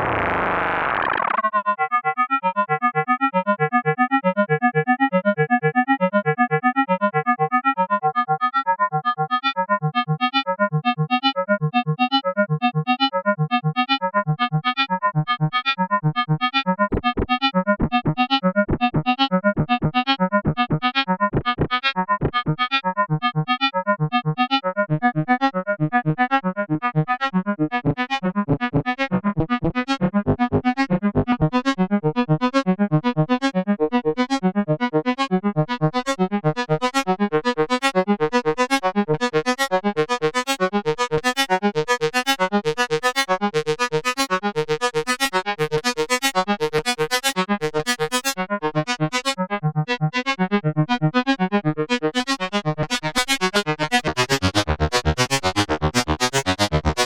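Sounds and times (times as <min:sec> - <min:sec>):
synthesizer plucky sequenced melody: 0:01.3 - 0:33.0, 0:33.8 - 0:57.0.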